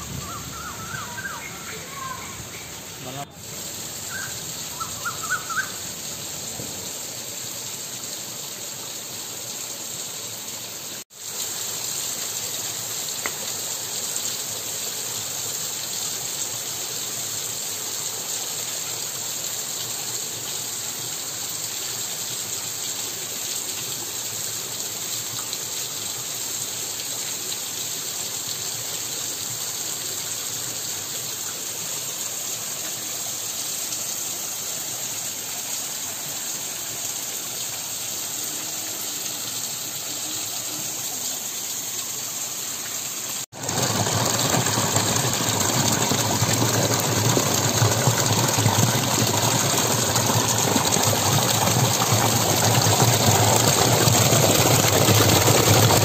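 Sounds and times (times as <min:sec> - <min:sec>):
waterfall splashing over rocks: 0:00.0 - 0:56.0.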